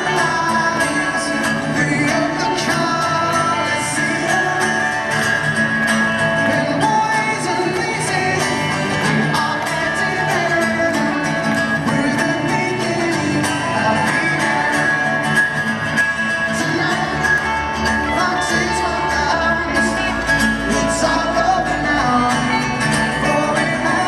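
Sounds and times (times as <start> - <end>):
person singing: 0.0 - 5.4, 6.5 - 24.0
strummed guitar: 0.0 - 24.0.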